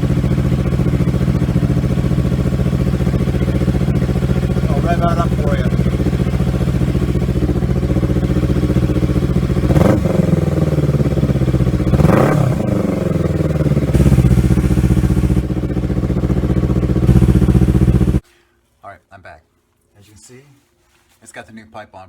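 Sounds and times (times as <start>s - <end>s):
engine revving blips: 0.0s - 18.2s
loud motorcycle engine idling: 0.0s - 18.2s.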